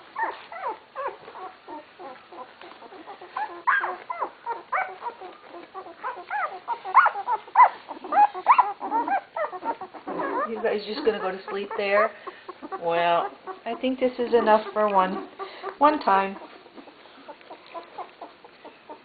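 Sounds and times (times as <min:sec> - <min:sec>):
puppies whimpering and squeaking: 0:00.0 - 0:19.0.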